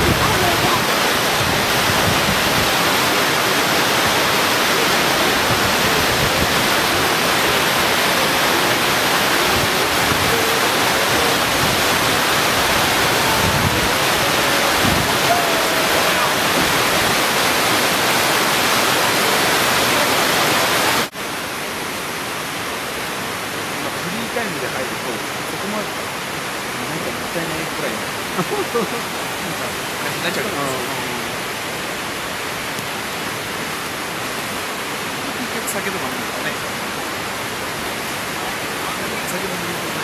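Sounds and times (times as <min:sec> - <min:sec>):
rushing water: 0:00.0 - 0:40.0.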